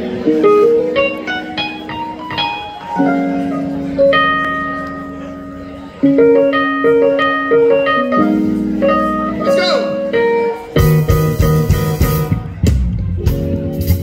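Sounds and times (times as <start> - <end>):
short guitar notes: 0.0 - 14.0
sustained keyboard chords: 0.0 - 14.0.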